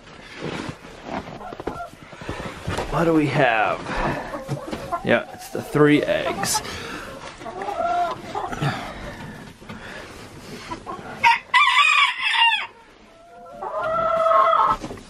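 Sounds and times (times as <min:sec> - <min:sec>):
chickens calling: 0:00.4 - 0:15.0.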